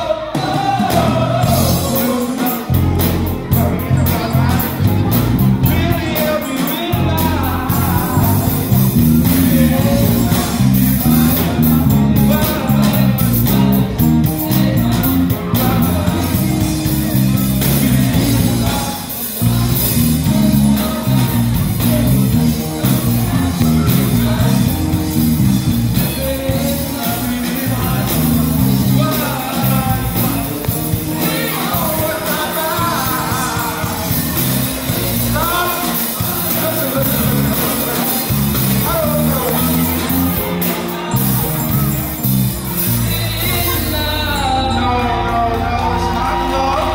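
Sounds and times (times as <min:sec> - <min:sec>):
boys singing: 0:00.0 - 0:40.2
electric guitars: 0:00.0 - 0:46.9
keyboard: 0:00.0 - 0:46.9.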